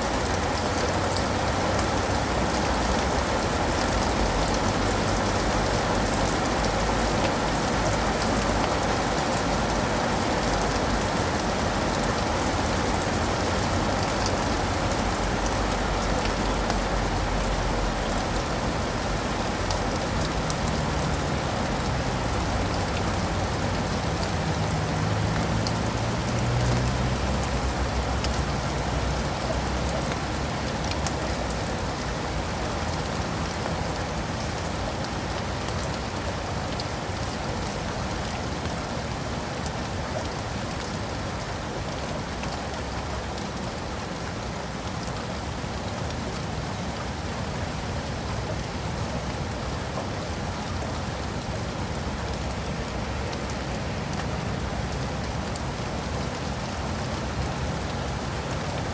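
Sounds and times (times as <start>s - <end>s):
rain on leaves and pavement: 0.0s - 58.9s.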